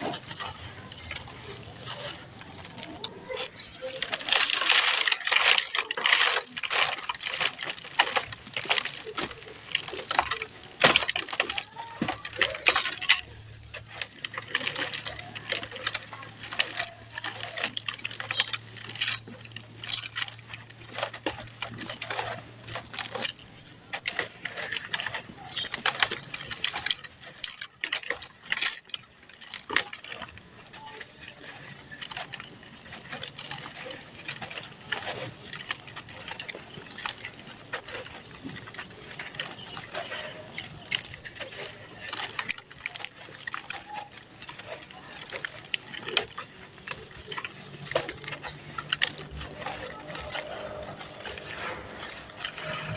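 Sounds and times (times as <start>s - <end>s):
dry blocks crunching and crackling: 0.0s - 52.9s.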